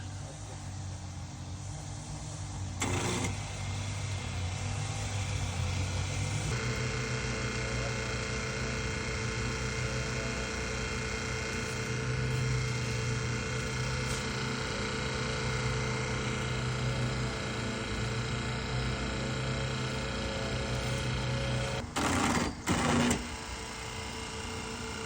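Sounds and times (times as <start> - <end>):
hydraulic power unit running: 0.0 - 25.0.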